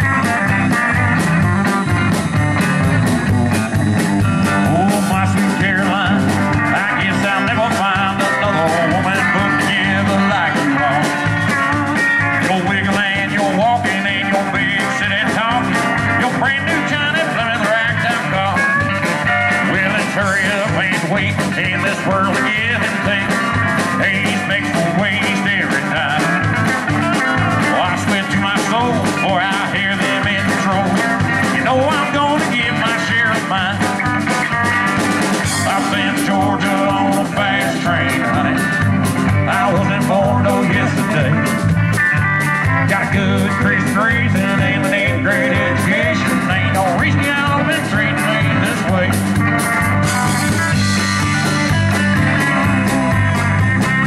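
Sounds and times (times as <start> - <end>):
live country rock band: 0.0 - 54.0.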